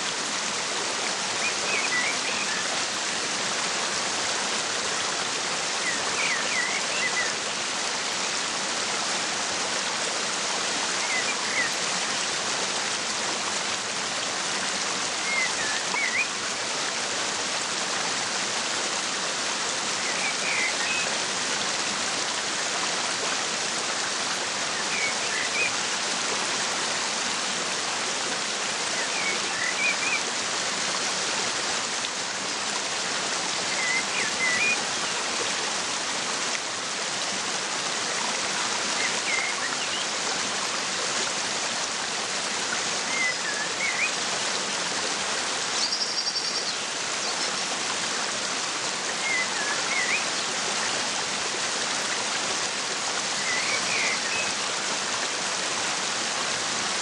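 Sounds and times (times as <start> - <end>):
waterfall: 0.0 - 57.0.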